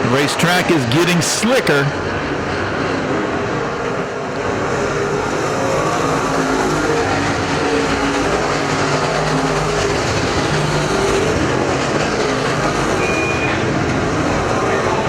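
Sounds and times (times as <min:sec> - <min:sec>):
race car engines at speed: 0:00.0 - 0:15.0.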